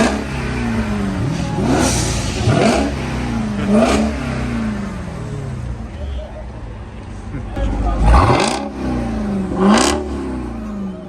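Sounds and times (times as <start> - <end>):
car engine revving: 0.0 - 6.1, 7.6 - 11.0.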